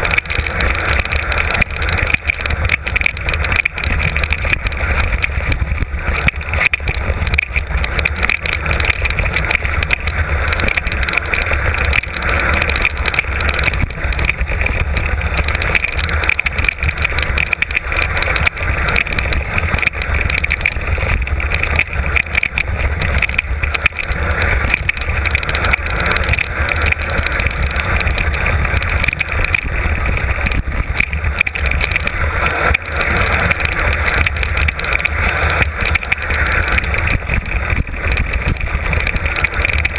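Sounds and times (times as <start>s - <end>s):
bike knocking and rattling: 0.0s - 39.9s
wind rushing on microphone: 0.0s - 39.9s.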